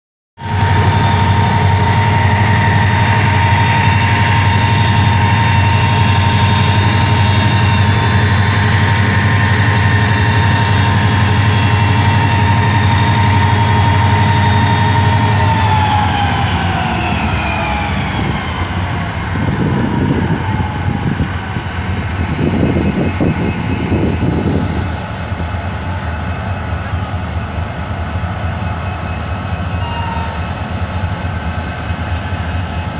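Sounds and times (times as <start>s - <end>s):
diesel locomotive engine: 0.4s - 32.9s
turbo whine: 0.4s - 32.9s.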